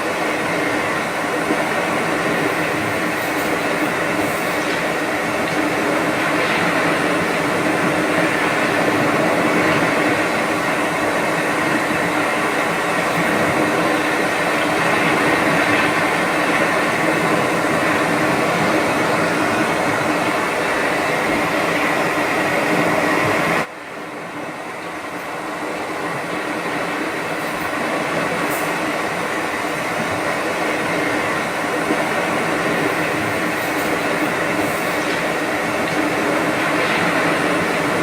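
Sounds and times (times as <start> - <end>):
steady hum and noise: 0.0 - 38.0.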